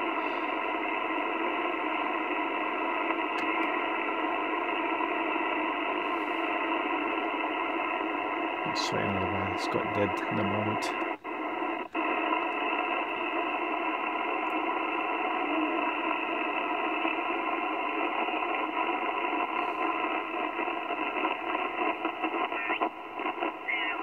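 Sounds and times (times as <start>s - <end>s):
radio static: 0.0s - 24.0s.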